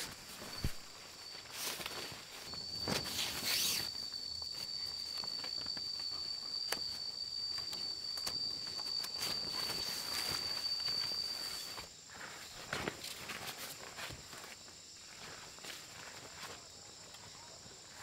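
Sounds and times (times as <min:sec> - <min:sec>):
insect singing high tone: 0:00.0 - 0:18.0.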